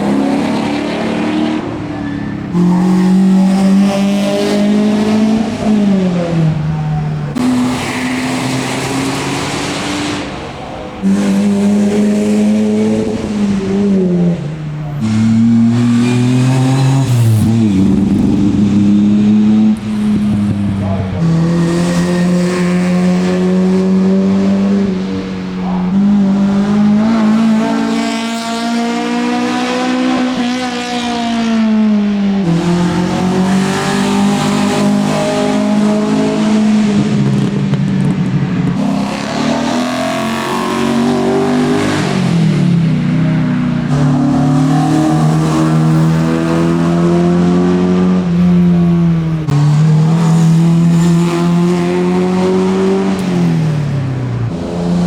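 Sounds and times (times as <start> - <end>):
racing car engine accelerating: 0.0 - 55.0.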